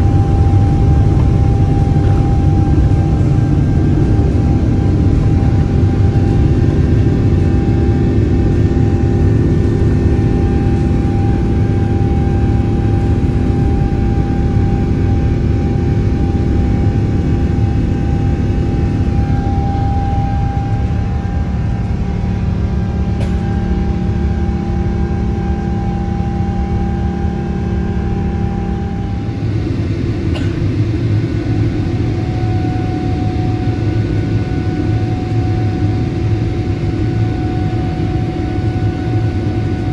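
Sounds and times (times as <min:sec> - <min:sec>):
jet engine rumble: 0:00.0 - 0:39.9
jet engine whining tones: 0:00.0 - 0:39.9.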